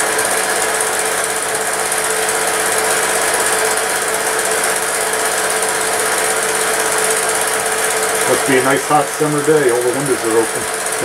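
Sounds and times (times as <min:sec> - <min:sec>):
film projector clattering: 0:00.0 - 0:11.0
projector hum: 0:00.0 - 0:11.0.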